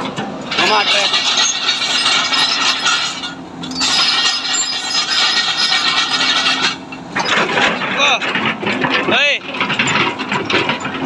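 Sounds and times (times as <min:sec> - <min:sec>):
engine drone: 0:00.0 - 0:11.0
steel crawler track grinding: 0:00.0 - 0:11.0.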